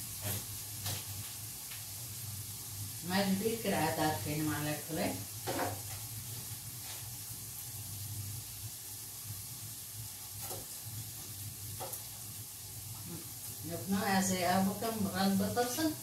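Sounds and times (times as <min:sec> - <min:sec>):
mushrooms sizzling in a pan: 0:00.0 - 0:16.0.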